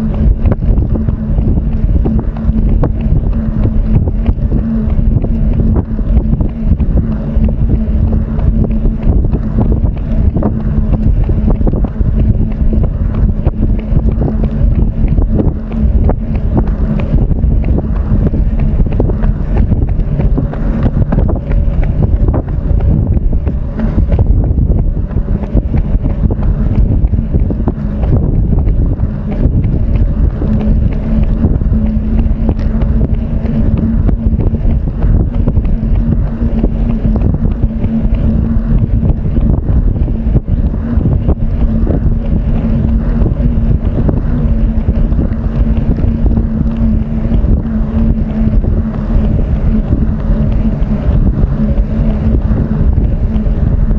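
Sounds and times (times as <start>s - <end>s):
steady hum: 0.0s - 53.9s
wind buffeting microphone: 0.0s - 53.9s.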